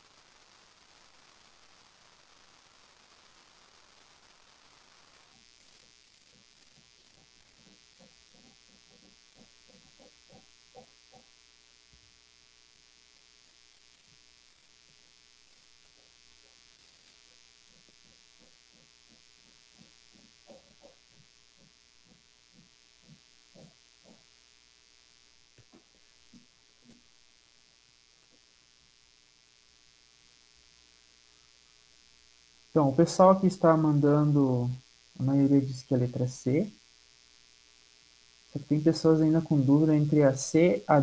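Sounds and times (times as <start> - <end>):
faint hum and hiss: 0.0 - 41.0.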